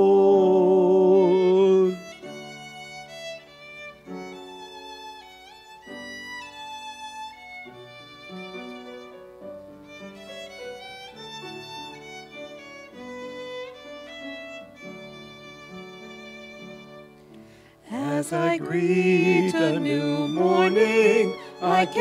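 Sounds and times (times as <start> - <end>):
piano accompaniment: 0.0 - 22.0
violin melody: 0.0 - 22.0.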